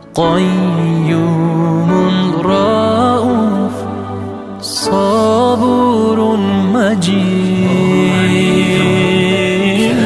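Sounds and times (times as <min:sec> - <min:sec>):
person singing ornamented line: 0:00.0 - 0:10.0
sustained backing music: 0:00.0 - 0:10.0.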